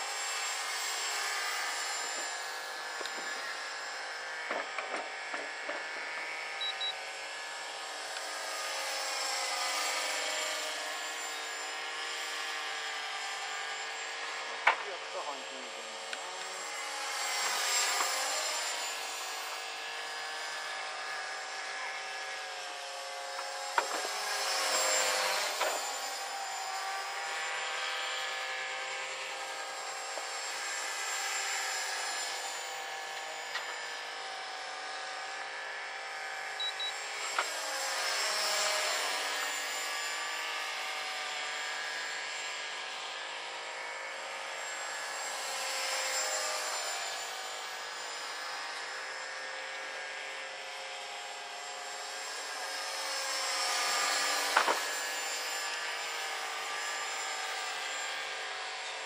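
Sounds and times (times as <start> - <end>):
rc helicopter motor whine: 0.0 - 59.0.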